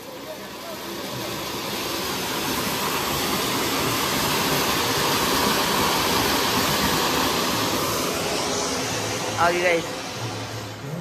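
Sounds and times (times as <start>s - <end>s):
sparkler hissing: 0.0s - 11.0s.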